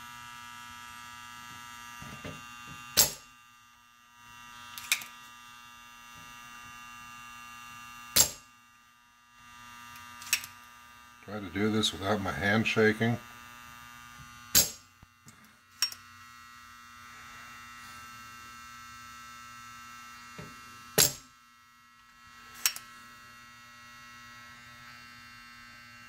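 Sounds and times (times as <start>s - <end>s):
soldering gun buzzing: 0.0s - 26.0s.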